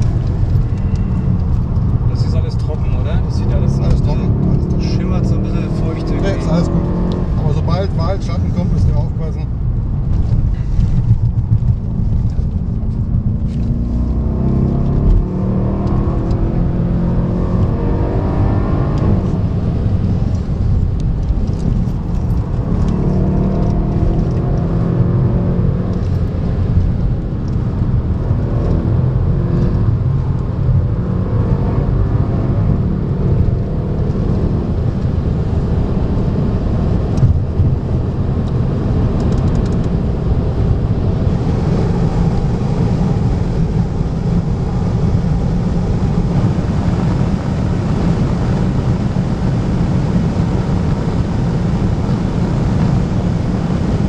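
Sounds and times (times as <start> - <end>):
car engine accelerating hard: 0.0 - 54.0
road and wind noise: 0.0 - 54.0.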